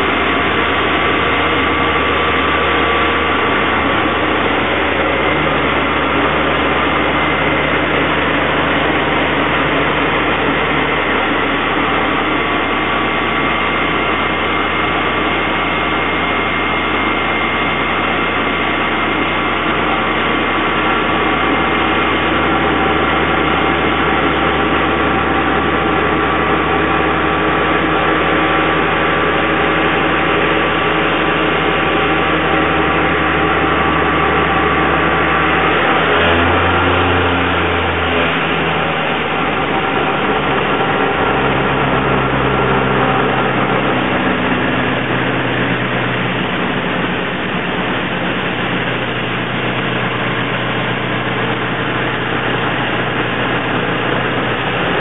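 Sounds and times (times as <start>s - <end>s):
brake test rig running: 0.0s - 55.0s
deep hum: 0.0s - 55.0s.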